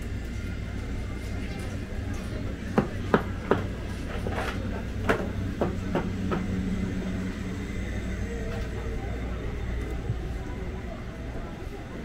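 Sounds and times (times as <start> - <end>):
low rumble and hum: 0.0 - 12.0.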